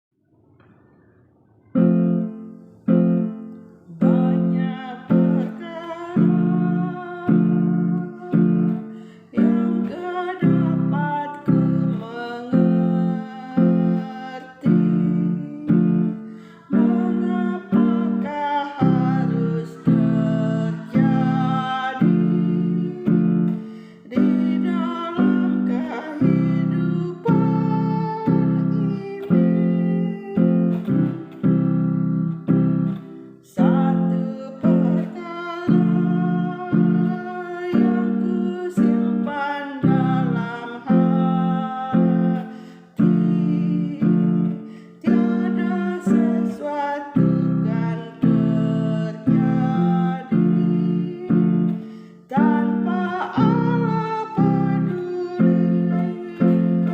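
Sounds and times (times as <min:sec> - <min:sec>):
person singing hoarsely: 0:02.9 - 0:31.4, 0:33.4 - 0:56.9.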